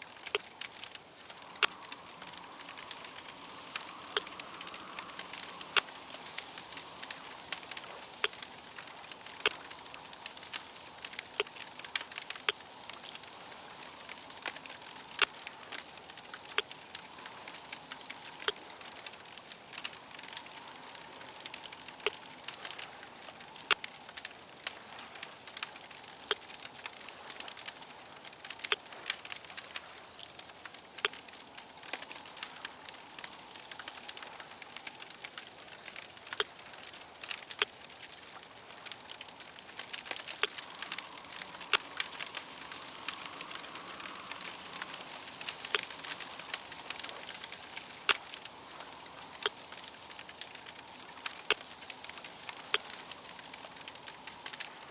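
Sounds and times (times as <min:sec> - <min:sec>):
fire crackling: 0:00.0 - 0:54.9.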